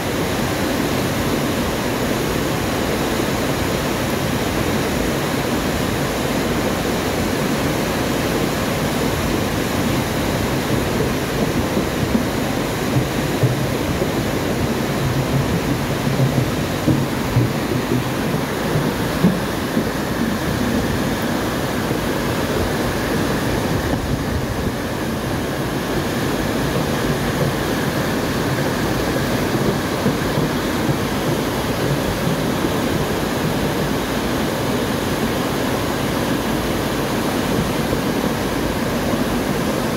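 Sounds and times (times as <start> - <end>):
turbulent water roaring: 0.0 - 39.9.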